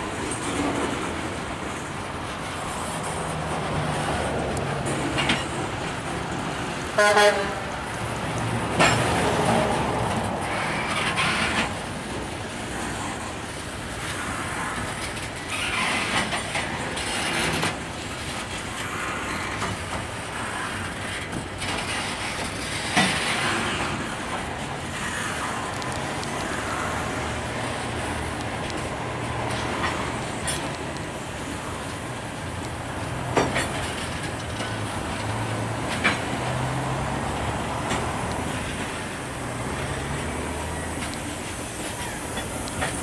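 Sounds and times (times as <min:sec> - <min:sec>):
freight cars clacking: 0:00.0 - 0:43.0
steel wheels rumbling on rail: 0:00.0 - 0:43.0.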